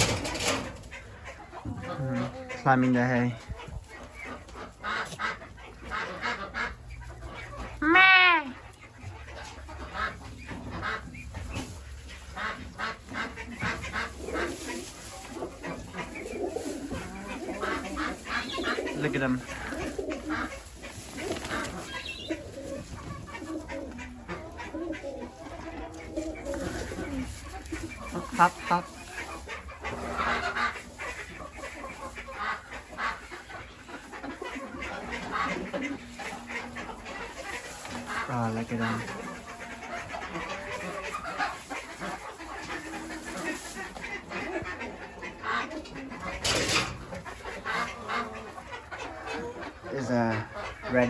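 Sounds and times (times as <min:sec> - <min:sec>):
chickens clucking: 0:00.0 - 0:51.0
poultry calling: 0:00.0 - 0:51.0.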